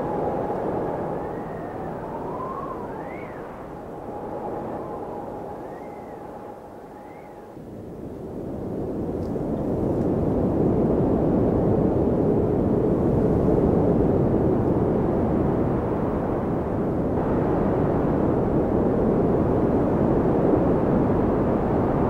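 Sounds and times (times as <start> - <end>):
low rumbling snowstorm wind: 0.0 - 22.0.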